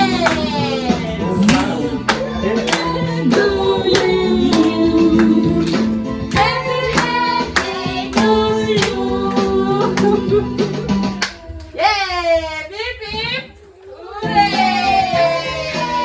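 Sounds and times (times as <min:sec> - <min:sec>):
song with singing over a beat: 0:00.0 - 0:11.4, 0:13.9 - 0:16.0.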